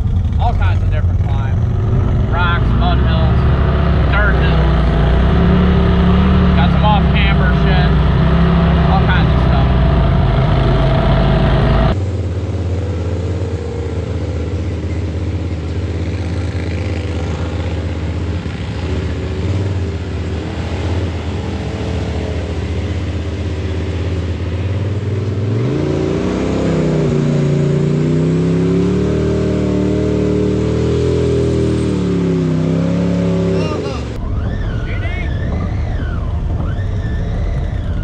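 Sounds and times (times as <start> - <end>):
utility vehicle engine running: 0.0 - 38.0.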